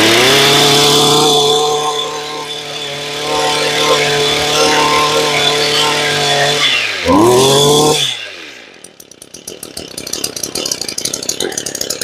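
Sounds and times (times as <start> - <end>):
brush cutter engine revving: 0.0 - 12.0.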